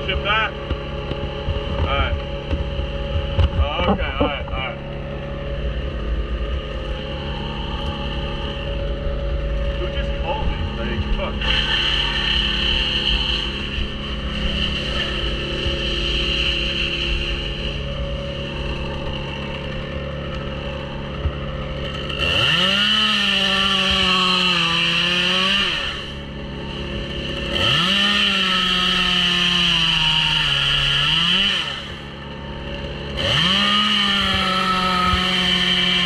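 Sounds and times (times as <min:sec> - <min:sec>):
chainsaw revving and cutting wood: 0:00.0 - 0:36.0.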